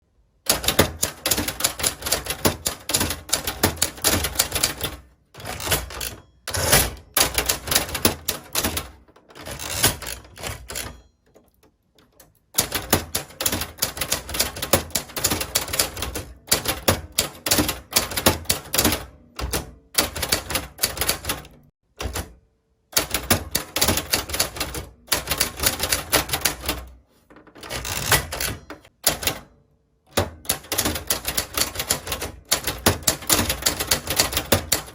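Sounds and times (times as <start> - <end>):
typewriter keys clacking: 0.5 - 22.4, 23.0 - 29.5, 30.1 - 34.9.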